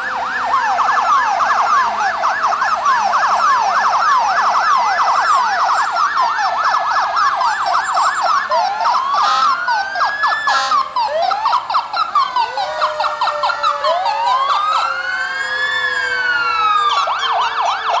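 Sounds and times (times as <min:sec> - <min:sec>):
emergency vehicle sirens: 0:00.0 - 0:18.0.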